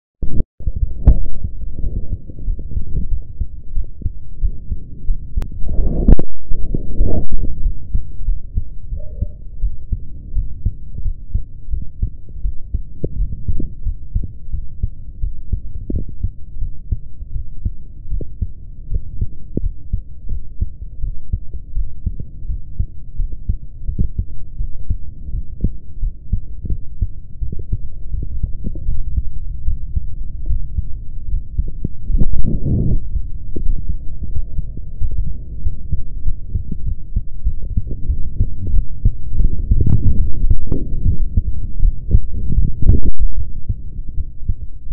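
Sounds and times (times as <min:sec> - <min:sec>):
heartbeat thumps: 0:00.2 - 0:44.9
steady low rumble: 0:00.2 - 0:44.9.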